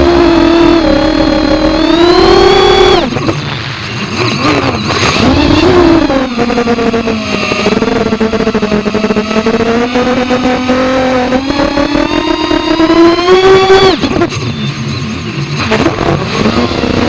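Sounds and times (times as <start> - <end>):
quadcopter motors whining: 0.0 - 15.3, 16.0 - 17.0.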